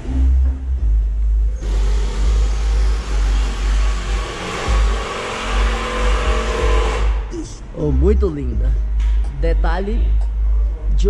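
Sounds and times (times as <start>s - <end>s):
loud music with deep bass: 0.0s - 11.0s.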